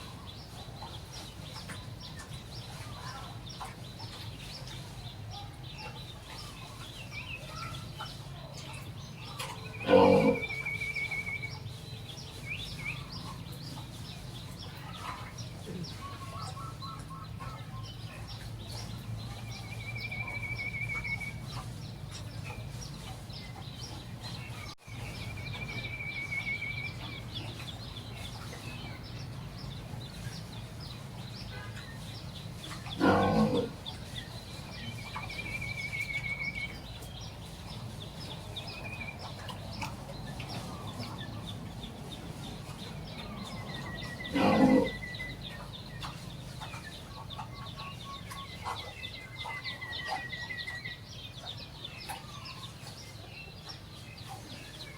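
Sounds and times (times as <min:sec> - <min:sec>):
birds trilling: 0:00.0 - 0:54.9.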